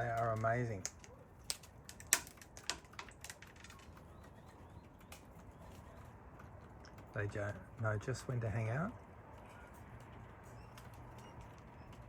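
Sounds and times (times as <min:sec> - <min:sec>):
pigeons pecking on hard surface: 0:00.0 - 0:12.0.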